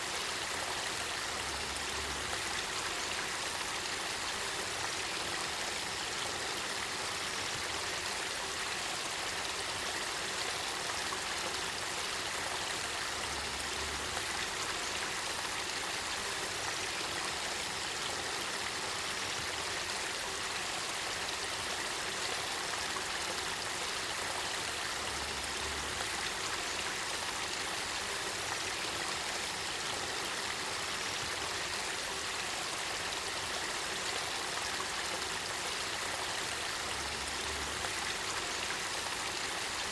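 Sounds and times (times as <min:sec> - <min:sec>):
river water flowing and bubbling: 0:00.0 - 0:39.9.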